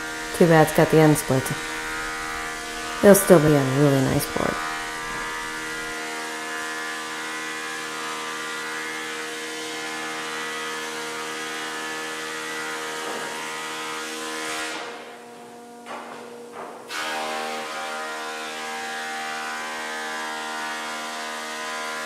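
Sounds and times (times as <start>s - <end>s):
wood planer running: 0.0s - 22.0s.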